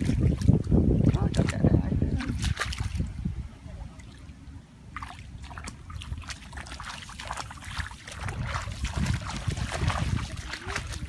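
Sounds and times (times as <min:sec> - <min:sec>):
wading through muddy water: 0:00.0 - 0:11.0.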